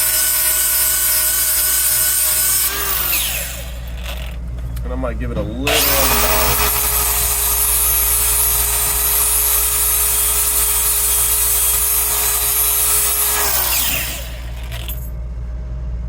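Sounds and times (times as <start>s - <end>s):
abrasive disc grinding metal: 0.0s - 15.1s
grinder motor whine: 0.0s - 15.3s.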